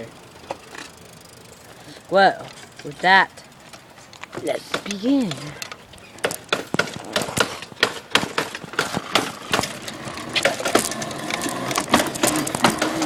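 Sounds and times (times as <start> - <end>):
sharp clicks and rattling knocks: 0.0 - 13.0.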